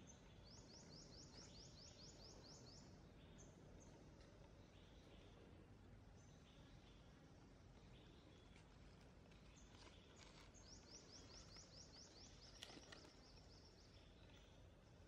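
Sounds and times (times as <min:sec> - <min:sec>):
small bird chirping: 0:00.0 - 0:05.4, 0:07.8 - 0:14.9
faint steady hiss: 0:00.0 - 0:15.0.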